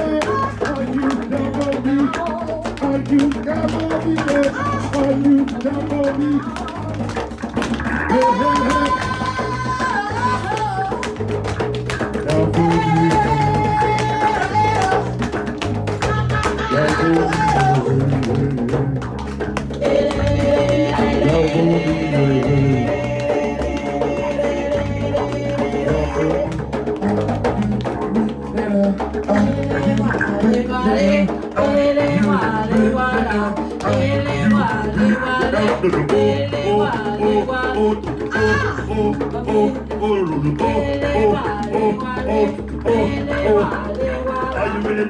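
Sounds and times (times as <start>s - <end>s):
voices singing: 0.0s - 11.3s, 12.2s - 15.4s, 16.0s - 19.0s, 19.7s - 45.0s
bass guitar line: 0.0s - 45.0s
hand drum beats: 0.0s - 45.0s.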